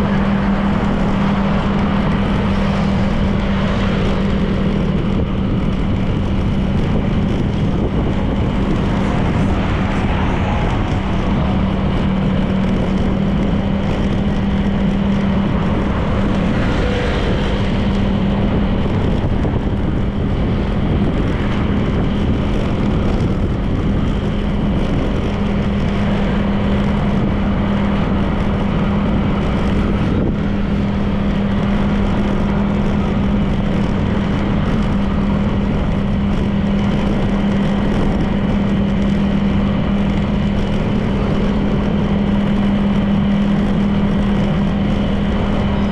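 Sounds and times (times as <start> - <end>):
scooter engine droning: 0.0 - 45.9
wind and road noise: 0.0 - 45.9.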